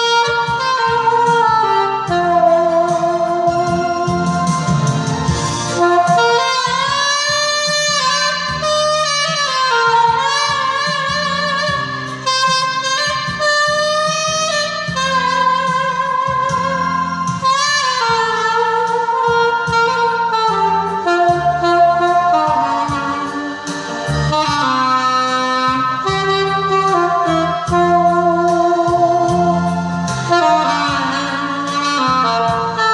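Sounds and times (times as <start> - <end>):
backing accompaniment: 0.0 - 32.9
saxophone slow melody: 0.0 - 32.9.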